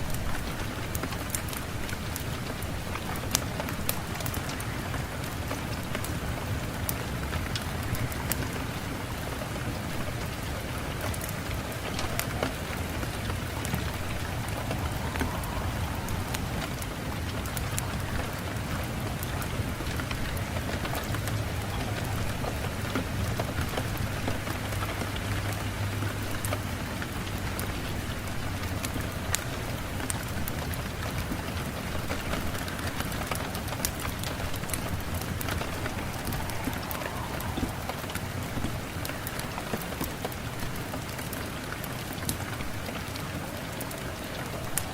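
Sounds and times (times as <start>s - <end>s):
raindrops ticking on a surface: 0.0s - 44.9s
steady rain falling: 0.0s - 44.9s.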